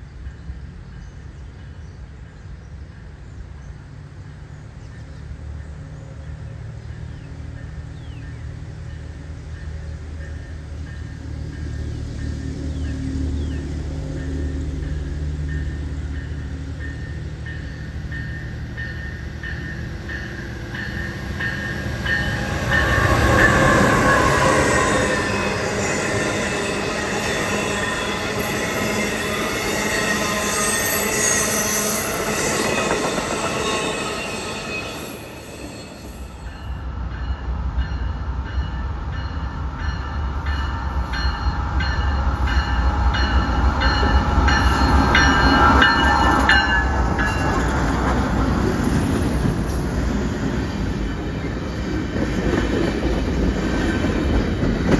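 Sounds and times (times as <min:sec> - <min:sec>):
train rumble: 0:00.0 - 0:54.9
train wheels squealing on rails: 0:04.9 - 0:54.9.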